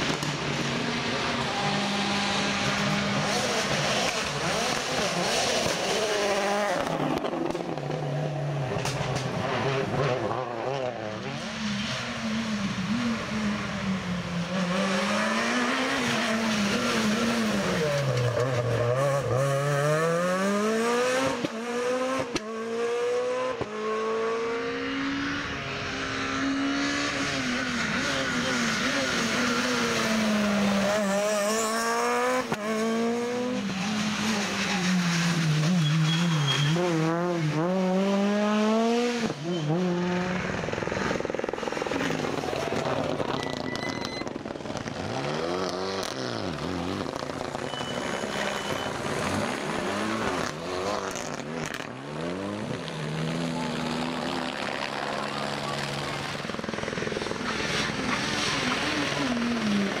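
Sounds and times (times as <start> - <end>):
rally cars passing revving: 0.0 - 60.0.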